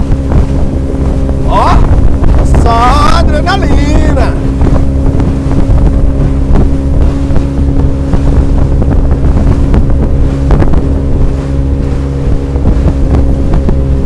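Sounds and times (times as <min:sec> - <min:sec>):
hull thumping on waves: 0:00.0 - 0:14.0
motorboat engine running: 0:00.0 - 0:14.0
wind on microphone: 0:00.0 - 0:14.0.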